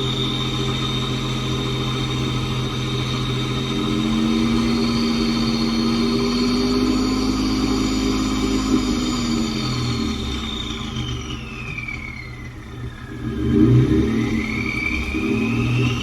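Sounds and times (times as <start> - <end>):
high turbo whistle: 0.0 - 16.0
truck engine running: 0.0 - 16.0.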